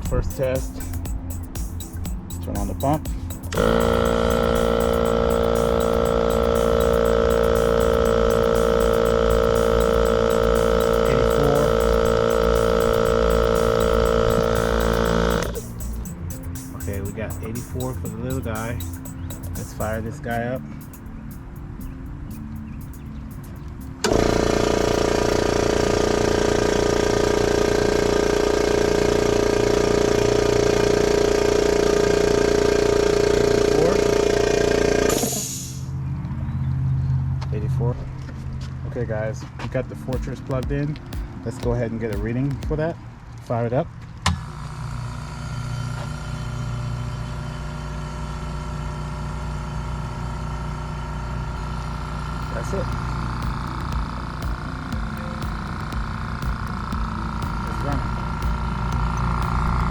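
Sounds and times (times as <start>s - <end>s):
air compressor running: 0.0s - 21.0s, 24.0s - 35.9s, 44.3s - 59.9s.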